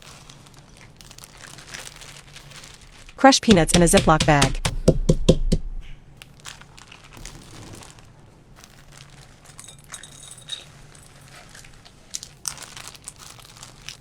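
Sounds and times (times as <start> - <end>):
peanuts crunching: 0.0 - 3.3, 5.7 - 14.0
plastic bag crinkling: 0.0 - 3.3, 5.8 - 14.0.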